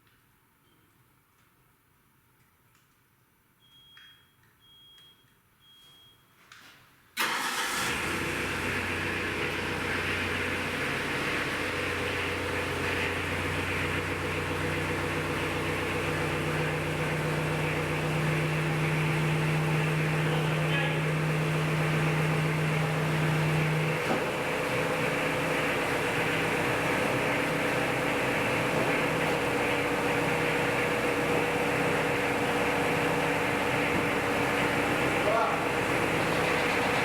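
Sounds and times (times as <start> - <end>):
diesel engine starting and idling: 7.2 - 37.0.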